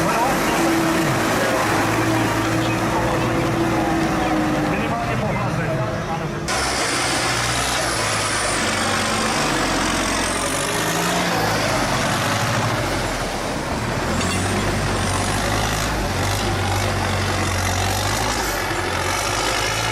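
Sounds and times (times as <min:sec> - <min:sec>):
tractor engine running hard: 0:00.0 - 0:19.9.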